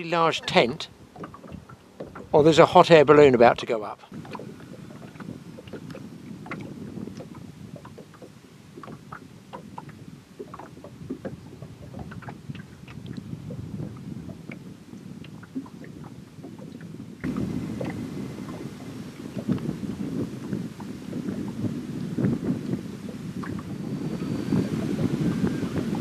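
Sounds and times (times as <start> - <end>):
water lapping against boat hull: 0.0 - 26.0
wind: 0.0 - 26.0.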